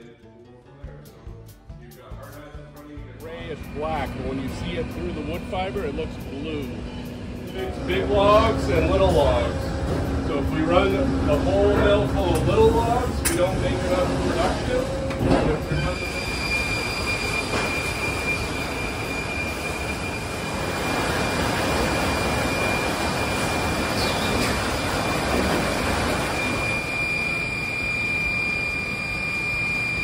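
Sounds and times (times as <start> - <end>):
high machine whine: 2.8 - 30.0
sawmill machinery din: 3.1 - 30.0.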